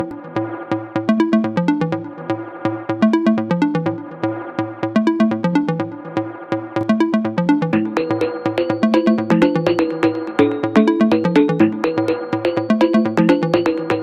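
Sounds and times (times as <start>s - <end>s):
electronic music with synth melody: 0.0s - 14.0s.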